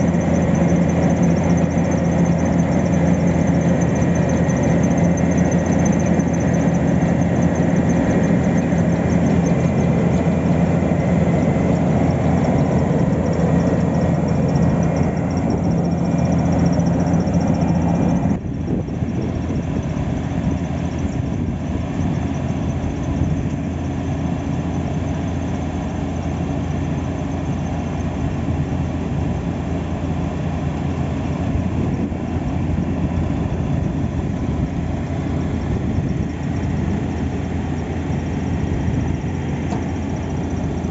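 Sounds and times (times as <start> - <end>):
diesel machinery engines running: 0.0 - 40.9.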